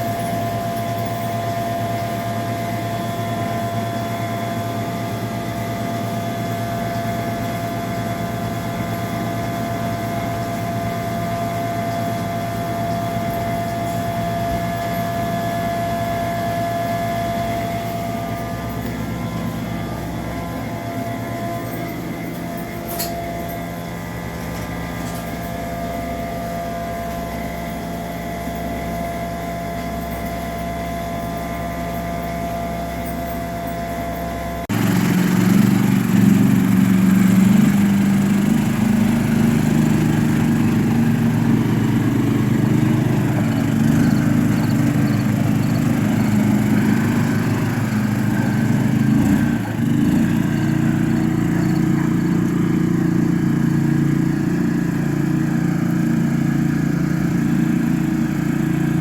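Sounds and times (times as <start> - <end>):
deep engine sound: 0.0 - 59.0
machinery whining over hum: 0.0 - 59.0.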